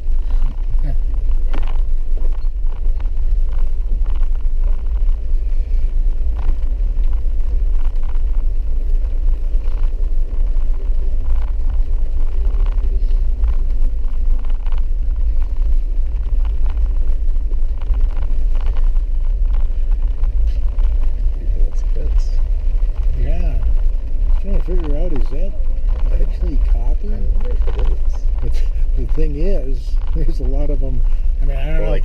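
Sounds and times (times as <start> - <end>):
engine and tyres rumbling: 0.0 - 32.0.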